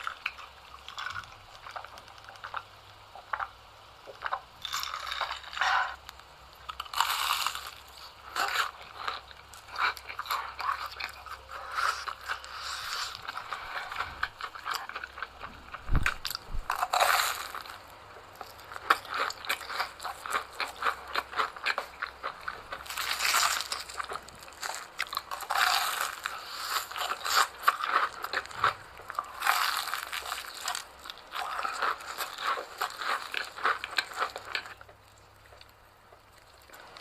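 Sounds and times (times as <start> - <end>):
chewing crunchy food: 0.0 - 37.0.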